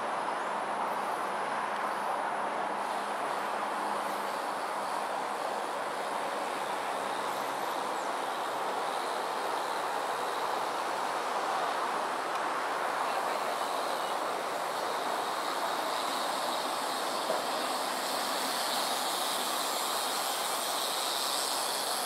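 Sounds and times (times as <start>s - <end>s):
vehicle in motion: 0.0s - 22.0s.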